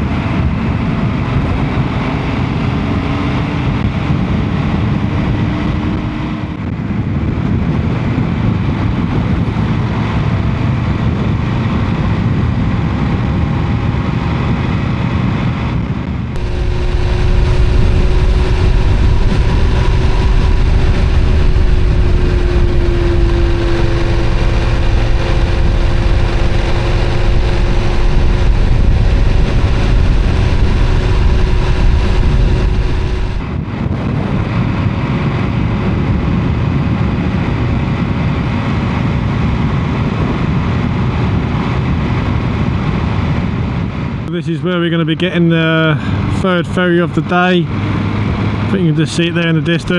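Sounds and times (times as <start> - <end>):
low rumble: 0.0 - 46.6
motorcycle engine hum: 0.0 - 49.9
wind noise: 0.0 - 49.9.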